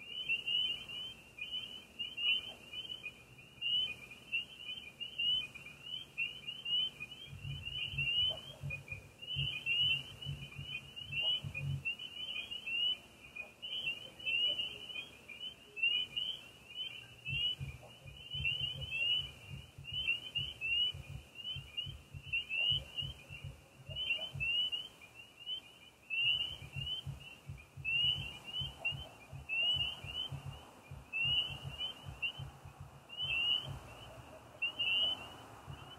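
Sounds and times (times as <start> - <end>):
frogs trilling: 0.0 - 35.9.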